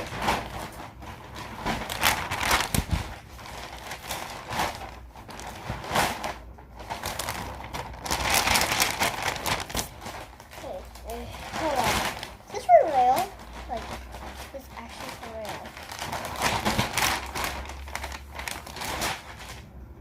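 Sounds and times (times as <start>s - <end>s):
plastic packaging crinkling: 0.0s - 19.8s.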